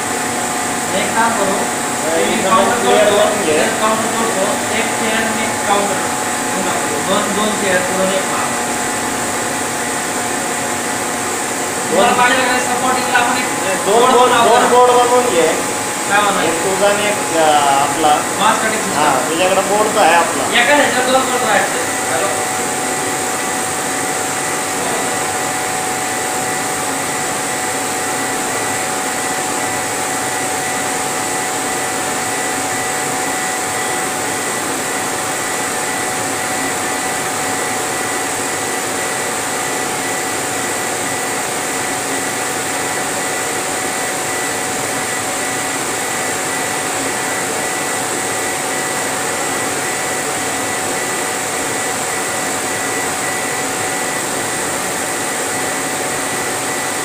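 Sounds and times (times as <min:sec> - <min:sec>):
constant machine whine: 0:00.0 - 0:57.0.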